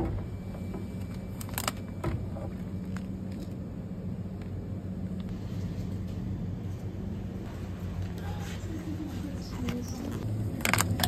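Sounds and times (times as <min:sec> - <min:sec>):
refrigerator hum: 0:00.0 - 0:11.0.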